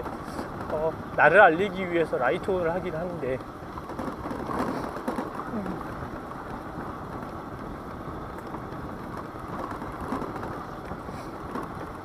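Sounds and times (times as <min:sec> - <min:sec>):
road noise: 0:00.0 - 0:12.0
rushing wind: 0:00.0 - 0:12.0.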